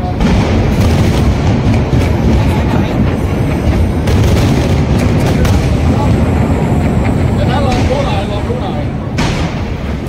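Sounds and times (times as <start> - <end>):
fireworks bursts rumbling: 0.0 - 10.0
fireworks crackling: 0.0 - 10.0.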